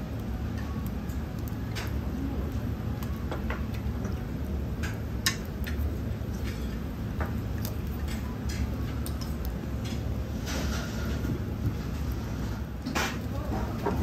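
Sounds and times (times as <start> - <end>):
seafood crackling on grill: 0.0 - 14.0
steady low hum: 0.0 - 14.0.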